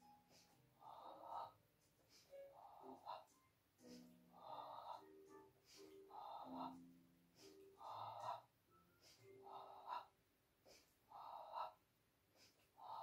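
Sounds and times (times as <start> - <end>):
woman breathing forcefully: 0.3 - 13.0.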